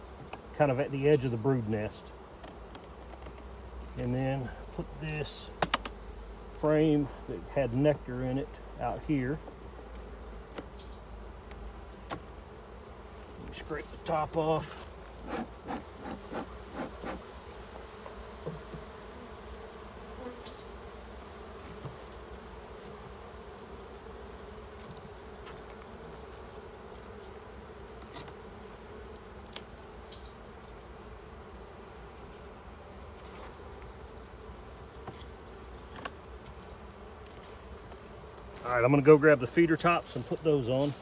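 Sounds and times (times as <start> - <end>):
honey bees buzzing: 0.0 - 41.0.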